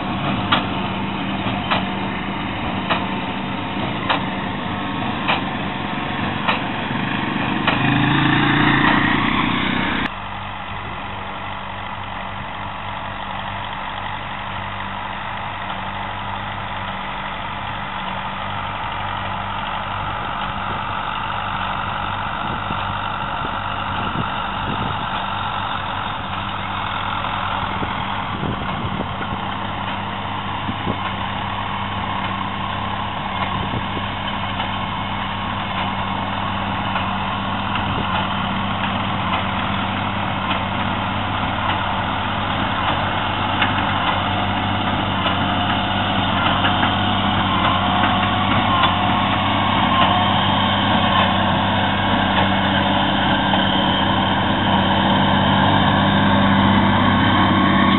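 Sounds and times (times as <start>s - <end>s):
distant tractor engine hum: 0.0s - 57.9s
tractor engine under load: 0.0s - 57.9s.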